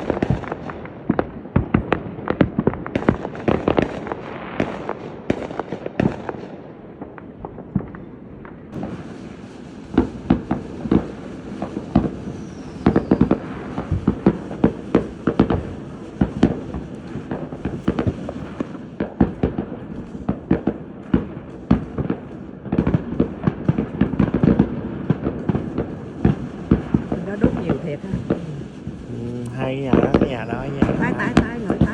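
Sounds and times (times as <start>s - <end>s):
fireworks bangs and crackles: 0.0s - 31.9s
fireworks rumble: 0.0s - 31.9s.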